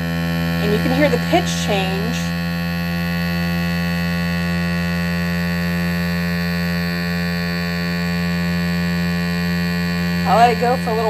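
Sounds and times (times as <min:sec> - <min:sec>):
vacuum sealer motor hum: 0:00.0 - 0:11.0.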